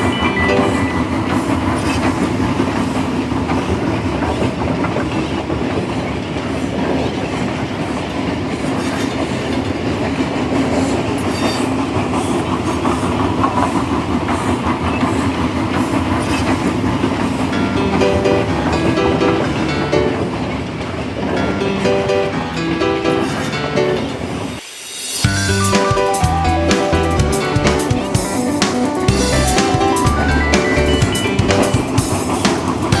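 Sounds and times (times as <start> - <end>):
train running on track: 0.0 - 33.0.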